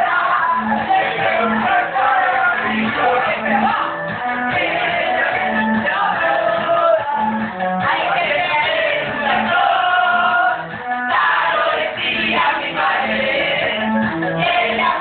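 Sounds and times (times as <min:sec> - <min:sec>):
group singing together: 0:00.0 - 0:15.0
karaoke backing track: 0:00.0 - 0:15.0.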